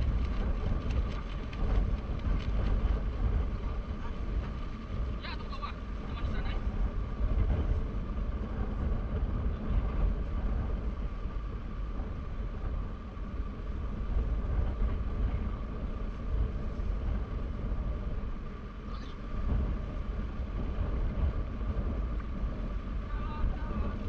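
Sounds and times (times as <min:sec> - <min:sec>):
faint whine: 0:00.0 - 0:24.0
vehicle rumbling: 0:00.0 - 0:24.0.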